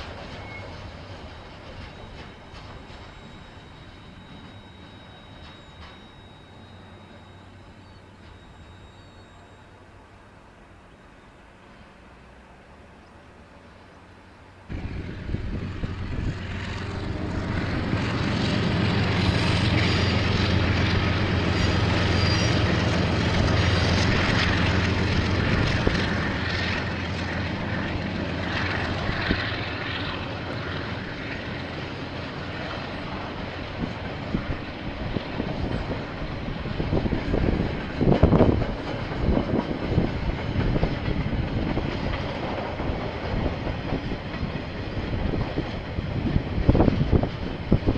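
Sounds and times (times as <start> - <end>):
diesel locomotive passing: 0.0 - 47.9.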